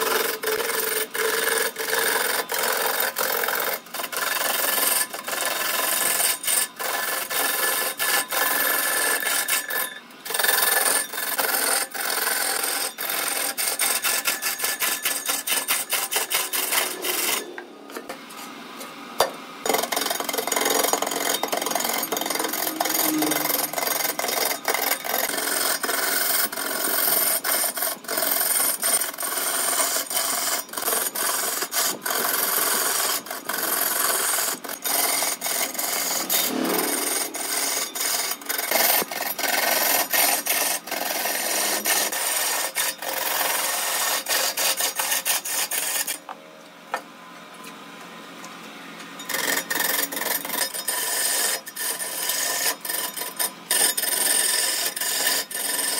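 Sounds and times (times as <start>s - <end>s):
lathe tool scraping wood: 0.0s - 18.6s, 19.2s - 46.2s, 49.2s - 55.9s.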